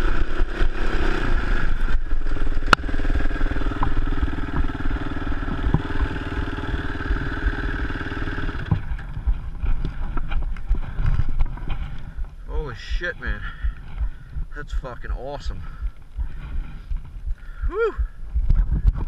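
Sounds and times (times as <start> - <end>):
clatter over terrain: 0.0 - 19.0
dirt bike engine running: 0.0 - 19.0
wind rumble: 0.0 - 19.0.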